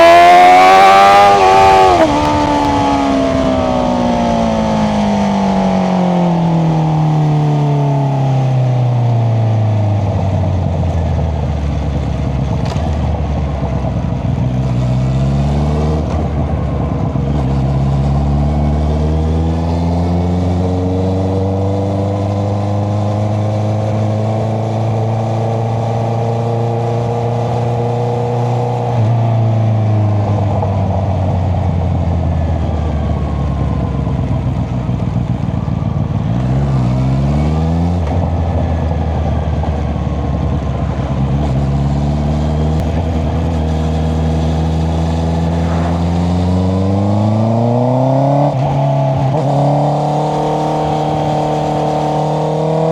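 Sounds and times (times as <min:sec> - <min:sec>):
motorcycle engine while riding: 0:00.0 - 0:52.9.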